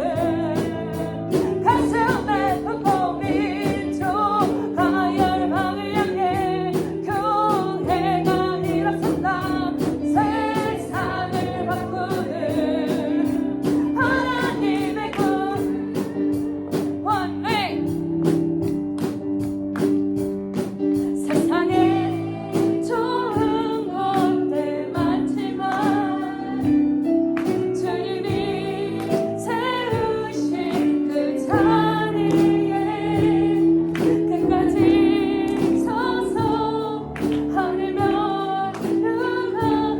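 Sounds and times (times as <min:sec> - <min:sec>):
group singing worship song: 0:00.0 - 0:18.0, 0:21.0 - 0:39.9
instrumental backing with beat: 0:00.0 - 0:39.9.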